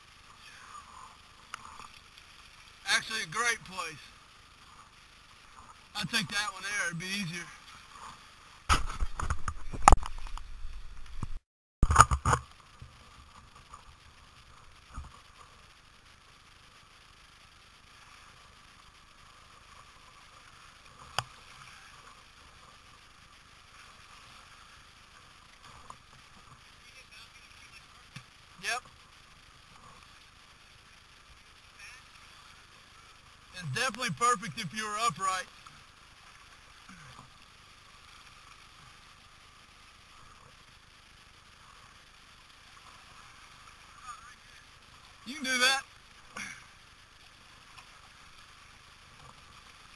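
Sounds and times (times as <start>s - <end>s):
river water washing around kayak: 0.0s - 49.9s.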